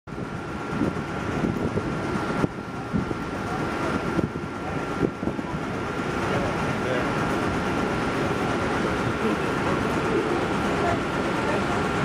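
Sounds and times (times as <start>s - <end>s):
wind buffeting microphone: 0.1s - 12.0s
machinery hum: 0.2s - 12.0s.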